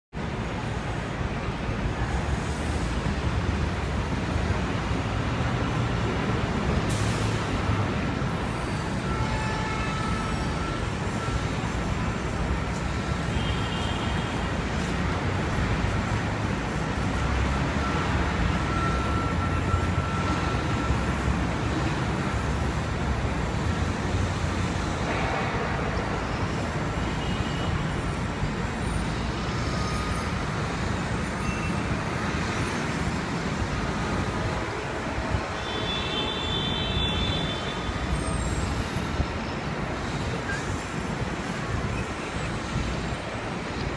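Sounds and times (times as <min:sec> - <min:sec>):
street traffic rumble: 0:00.1 - 0:43.9.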